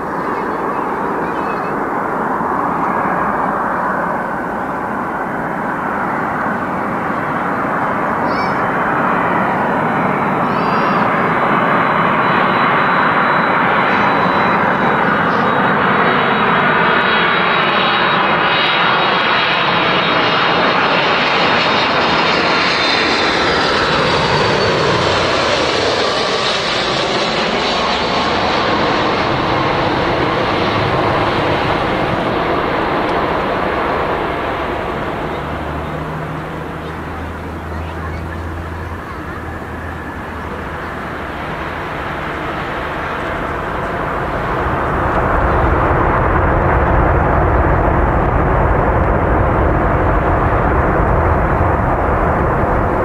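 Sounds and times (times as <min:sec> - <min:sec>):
jet airliner engines rushing: 0:00.0 - 0:53.0.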